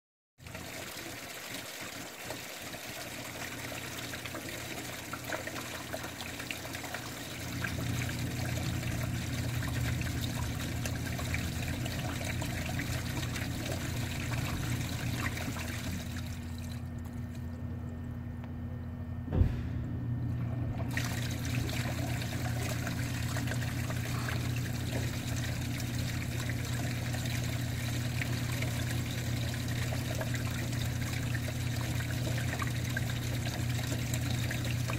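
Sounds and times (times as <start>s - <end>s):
water running through drain pipe: 0.4s - 18.3s, 20.3s - 34.9s.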